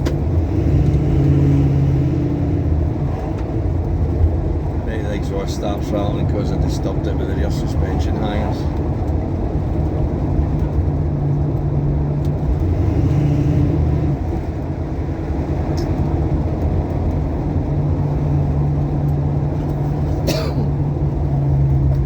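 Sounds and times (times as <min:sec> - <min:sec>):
car engine running while driving: 0:00.0 - 0:22.0.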